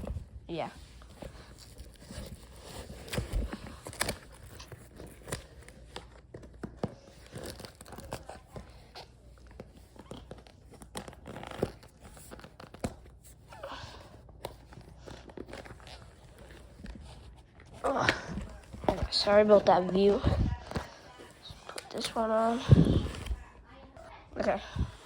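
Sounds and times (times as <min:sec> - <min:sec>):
boot rustling and crinkling: 0:00.0 - 0:23.8.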